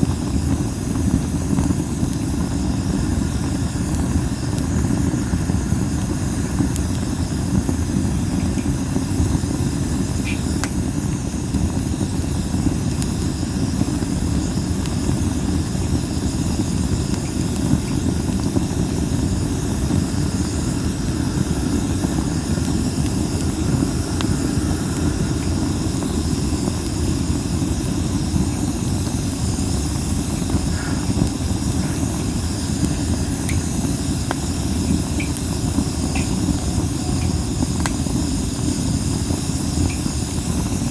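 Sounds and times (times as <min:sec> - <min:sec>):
wood fire hissing and crackling: 0:00.0 - 0:40.9.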